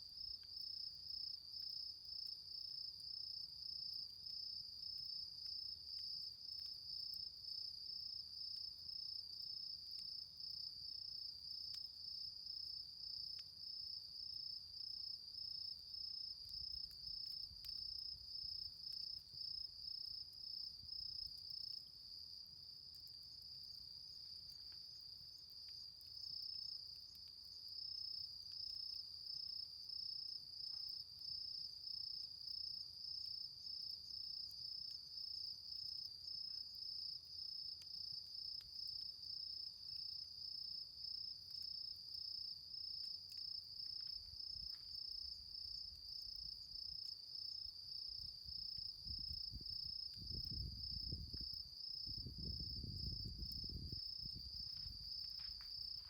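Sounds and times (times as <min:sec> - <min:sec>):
campfire embers crackling: 0:00.0 - 0:52.6, 0:53.2 - 0:56.0
crickets chirping: 0:00.0 - 0:56.0.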